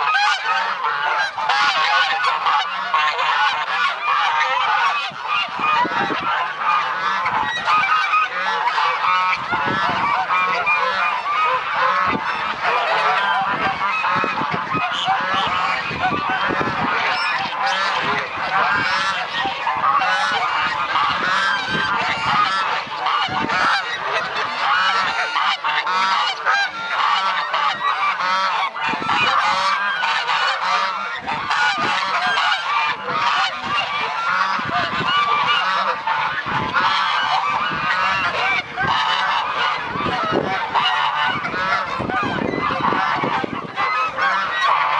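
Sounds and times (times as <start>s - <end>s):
geese honking: 0.0s - 44.9s.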